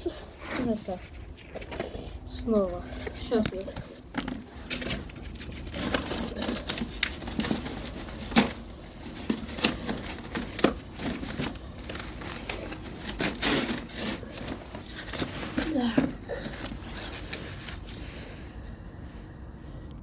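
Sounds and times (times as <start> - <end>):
cardboard crinkling: 0.0 - 18.2.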